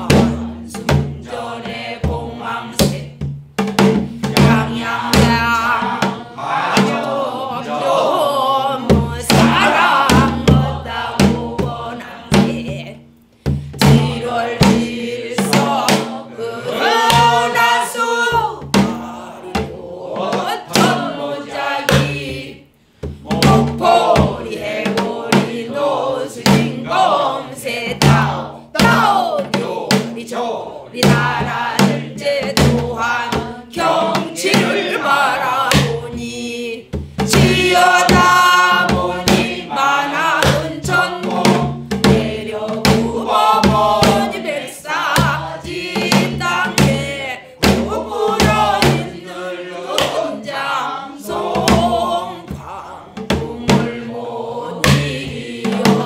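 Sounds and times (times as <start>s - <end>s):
drum beating a rhythm: 0.0s - 56.0s
voices singing together: 0.0s - 56.0s.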